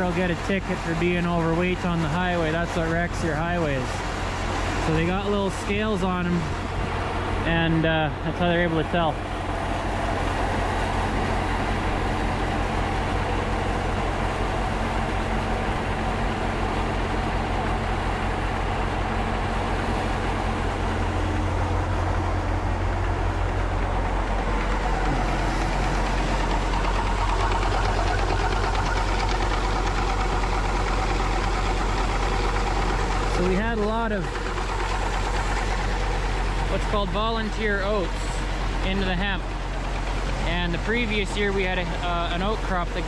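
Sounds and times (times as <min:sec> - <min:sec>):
engine rumbling: 0:00.0 - 0:43.0.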